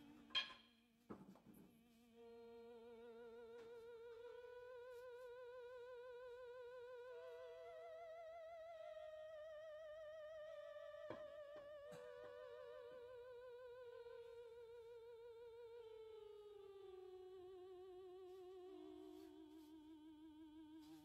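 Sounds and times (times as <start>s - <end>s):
faint music with vibrato: 1.5s - 21.0s.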